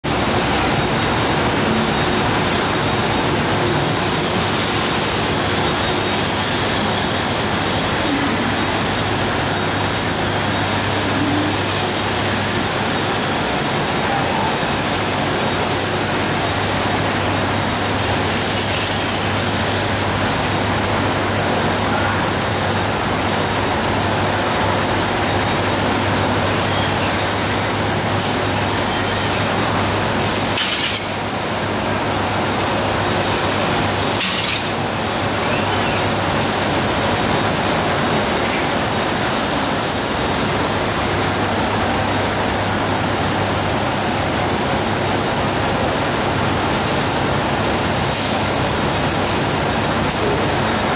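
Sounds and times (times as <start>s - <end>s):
water jet hissing: 0.1s - 50.9s.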